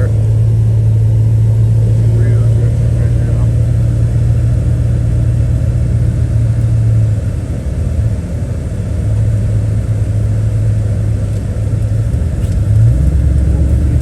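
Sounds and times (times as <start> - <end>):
pickup truck engine and road drone: 0.0 - 14.0.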